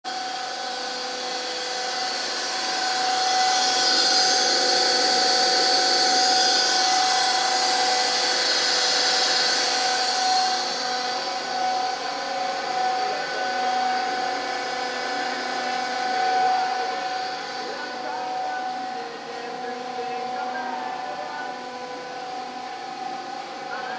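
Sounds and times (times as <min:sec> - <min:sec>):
electric motor whine: 0:00.1 - 0:23.9.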